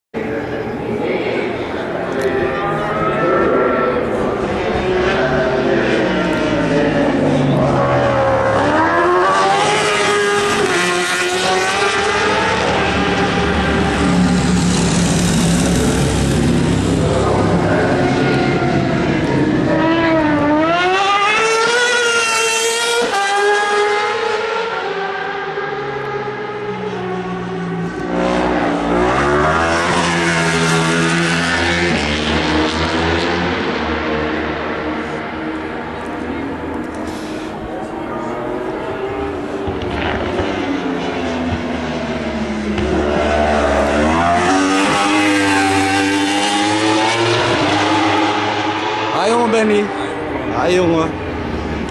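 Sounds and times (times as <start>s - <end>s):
racing motorcycle engines revving: 0.2s - 51.9s.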